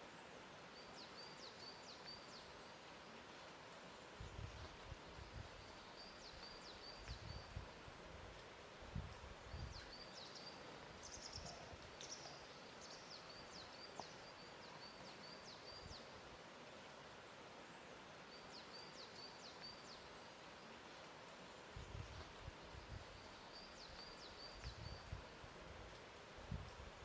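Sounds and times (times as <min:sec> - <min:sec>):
soft background hiss: 0:00.0 - 0:27.0
small birds chirping: 0:00.1 - 0:03.1, 0:03.9 - 0:08.6, 0:09.2 - 0:16.3, 0:17.2 - 0:27.0.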